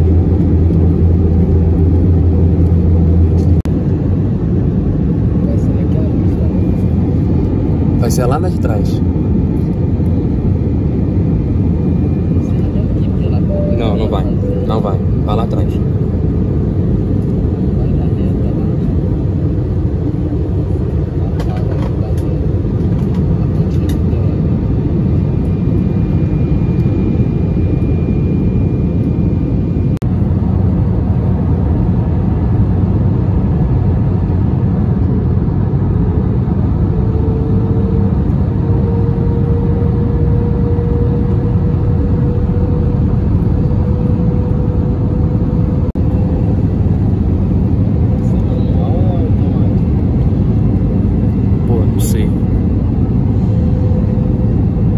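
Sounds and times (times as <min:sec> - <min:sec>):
engine hum rising in pitch: 0:00.0 - 0:08.0, 0:09.1 - 0:21.2, 0:22.4 - 0:54.9
aircraft cabin rumble: 0:00.0 - 0:54.9.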